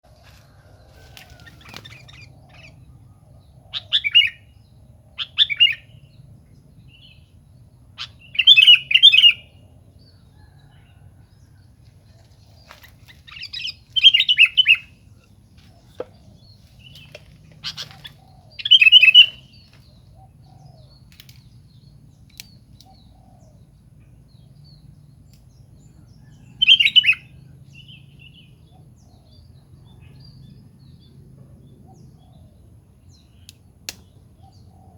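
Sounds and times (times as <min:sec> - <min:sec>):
bird chirping phrases: 0:01.0 - 0:11.0, 0:11.6 - 0:34.9.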